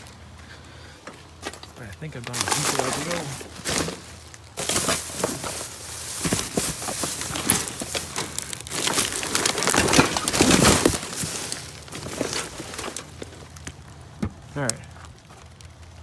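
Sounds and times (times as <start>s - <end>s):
junk crinkling and clattering: 0.0s - 16.0s.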